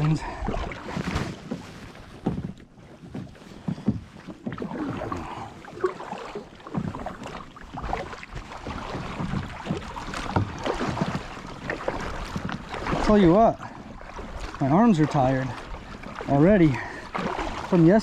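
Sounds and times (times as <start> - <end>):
kayak paddle splashing in water: 0.0 - 18.0.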